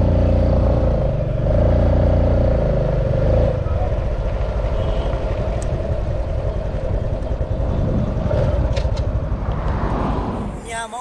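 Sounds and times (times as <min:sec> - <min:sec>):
motorcycle engine running: 0:00.0 - 0:09.6
wind rumble on microphone: 0:00.0 - 0:10.7.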